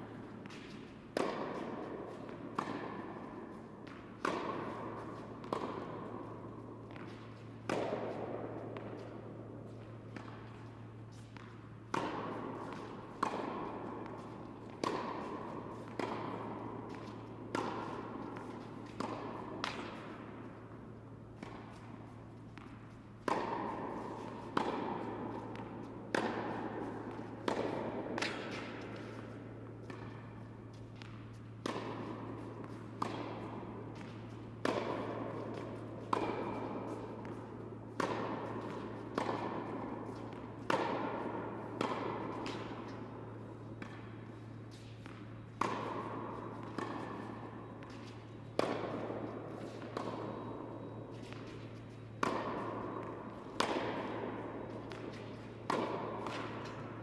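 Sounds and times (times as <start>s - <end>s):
ball bouncing on hard court: 0.0s - 57.0s
steady low hum: 0.0s - 57.0s
tennis ball hit by racket: 0.0s - 57.0s.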